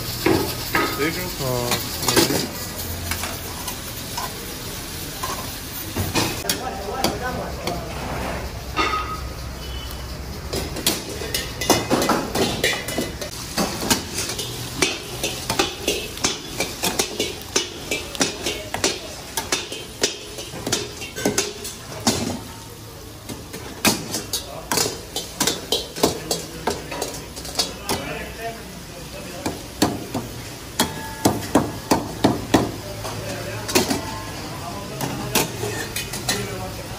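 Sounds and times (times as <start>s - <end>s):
meat sizzling: 0.0s - 36.9s
metal utensils clanking on woks: 0.0s - 36.9s.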